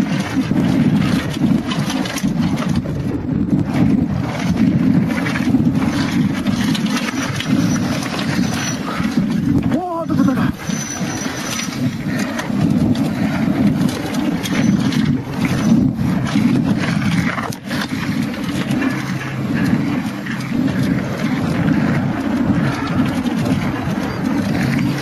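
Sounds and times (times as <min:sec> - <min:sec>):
mountain bike rattling and rumbling: 0:00.0 - 0:25.0.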